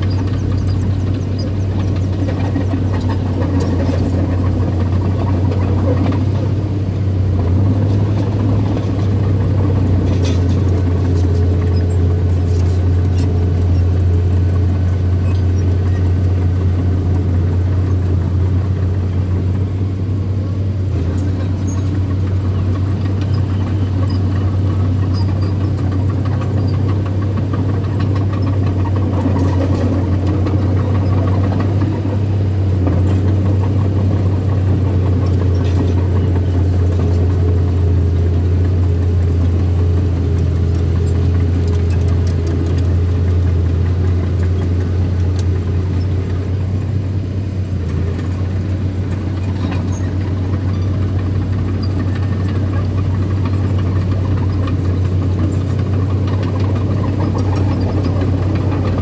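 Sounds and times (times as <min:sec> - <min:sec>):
bulldozer engine droning: 0:00.0 - 0:59.0.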